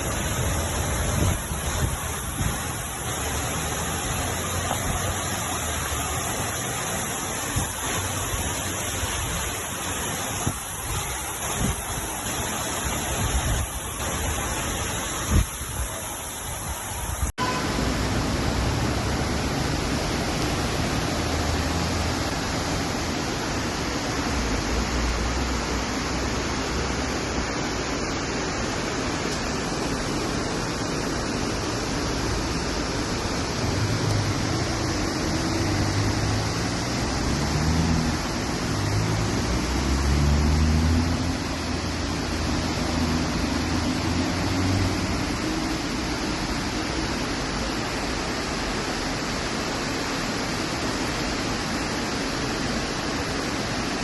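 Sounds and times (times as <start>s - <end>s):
heavy rain and running water: 0.0s - 54.0s.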